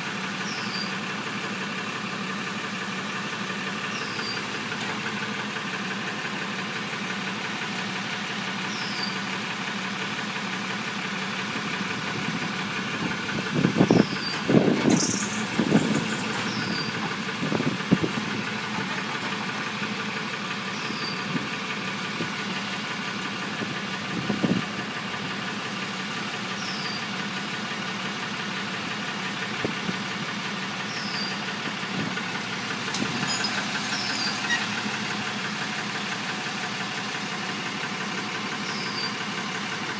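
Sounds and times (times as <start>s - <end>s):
tow truck engine idling: 0.0s - 39.9s.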